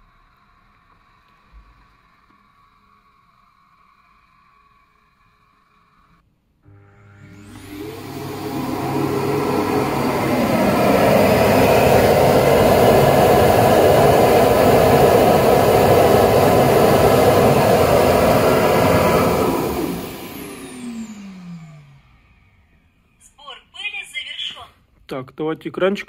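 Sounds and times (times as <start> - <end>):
suction motor whining: 0.0 - 23.2.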